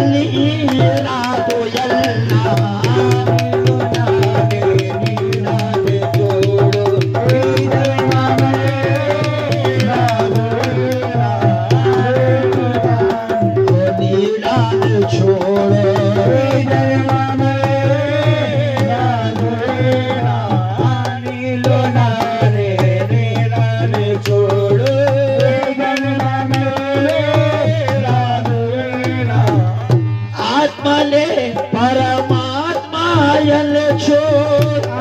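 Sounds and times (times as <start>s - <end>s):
hand drums fast rhythm: 0.0s - 35.0s.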